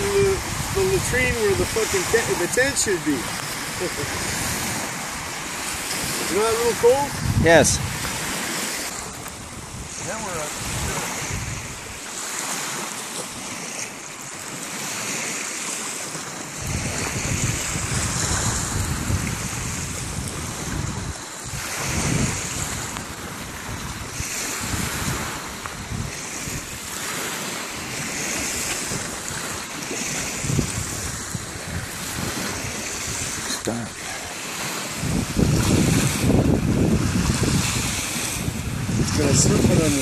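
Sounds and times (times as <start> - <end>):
wind buffeting microphone: 0.0 - 12.8, 16.5 - 40.0
small waves washing onto beach: 0.0 - 40.0.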